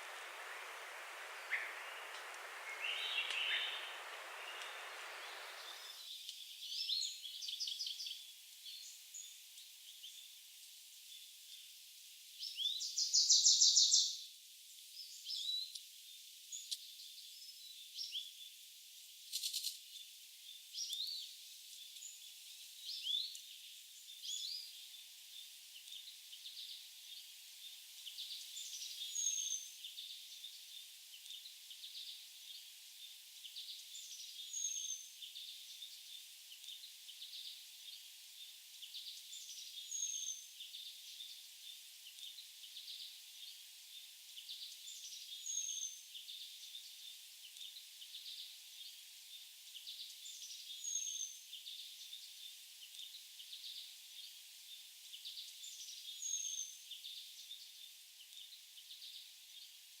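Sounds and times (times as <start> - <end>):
faint bird song: 0.0 - 60.0
soft steady hiss: 0.0 - 60.0.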